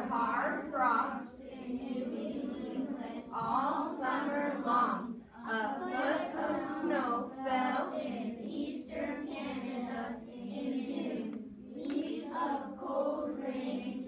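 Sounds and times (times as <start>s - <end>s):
children reading aloud in unison: 0.0s - 14.0s.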